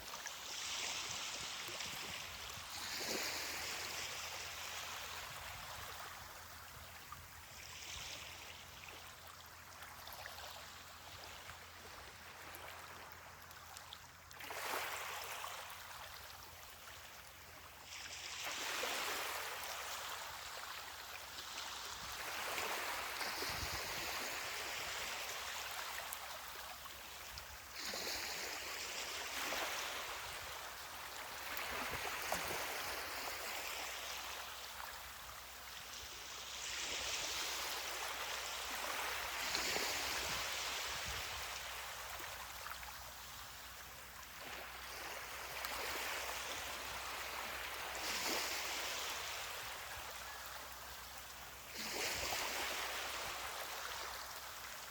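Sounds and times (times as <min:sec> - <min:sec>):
small ocean waves breaking: 0:00.0 - 0:54.9.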